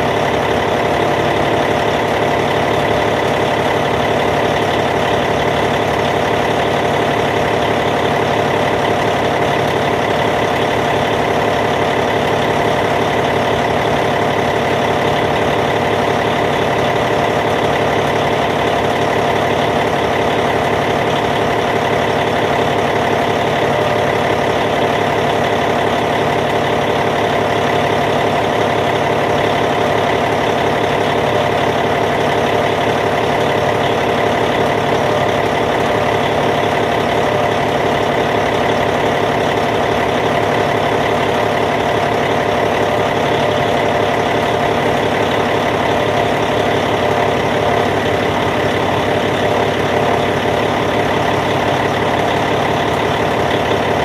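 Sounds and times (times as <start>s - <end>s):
bulldozer diesel engine idling: 0.0s - 54.0s.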